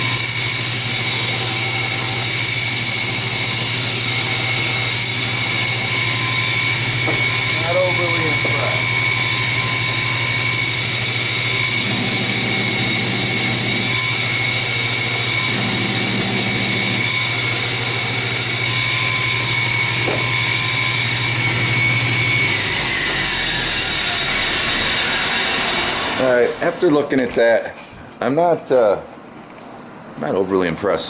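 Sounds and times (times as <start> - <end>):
grinder motor whining: 0.0 - 27.5
metal grinding on wheel: 0.6 - 27.2.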